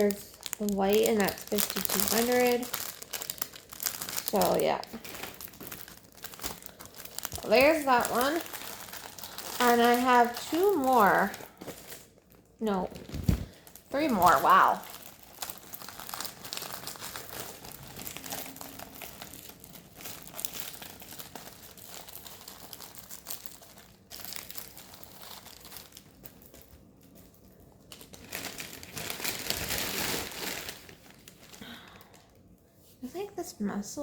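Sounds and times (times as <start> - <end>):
plastic packaging crinkling: 0.0 - 32.5.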